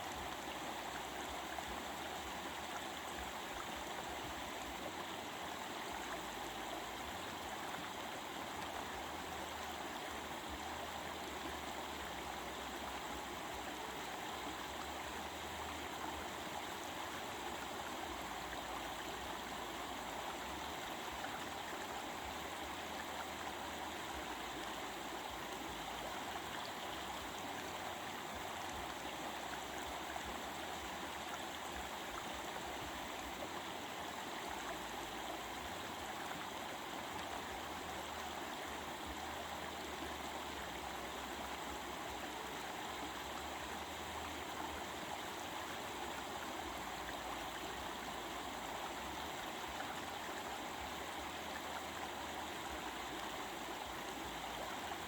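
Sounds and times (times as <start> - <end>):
stream water babbling: 0.0 - 55.0.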